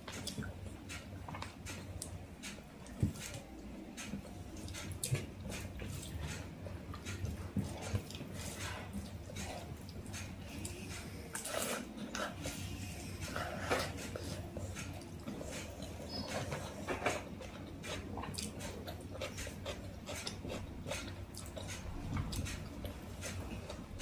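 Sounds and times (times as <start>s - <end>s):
person eating: 0.1s - 24.0s.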